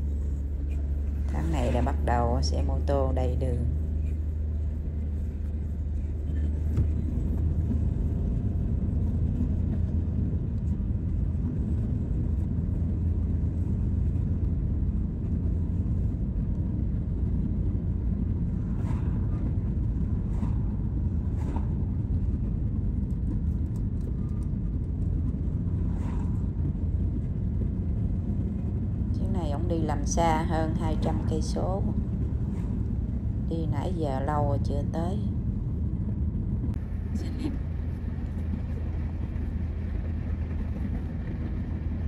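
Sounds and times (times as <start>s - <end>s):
car engine rumble: 0.0s - 42.0s.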